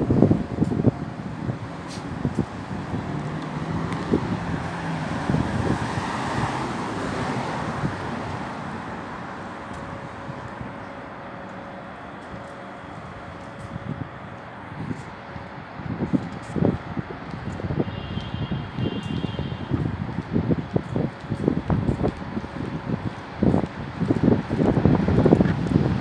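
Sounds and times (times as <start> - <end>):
wind gusting against microphone: 0.0 - 26.0.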